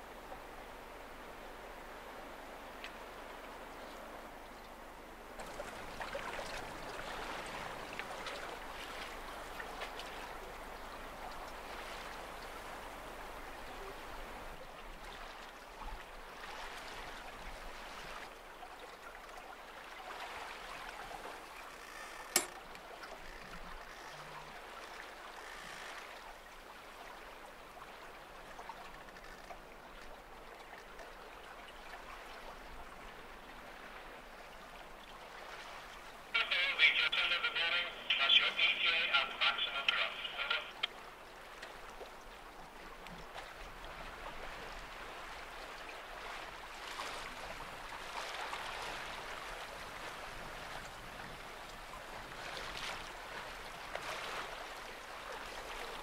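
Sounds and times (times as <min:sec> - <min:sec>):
water splashing along a boat hull: 0:00.0 - 0:56.0.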